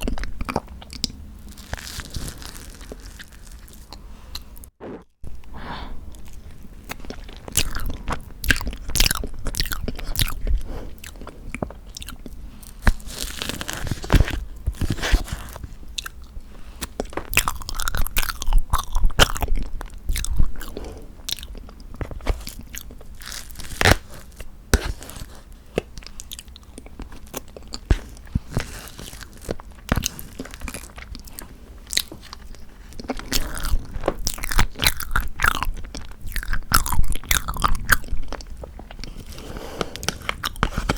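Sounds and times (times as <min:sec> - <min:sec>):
chewing and biting: 0:06.2 - 0:40.9.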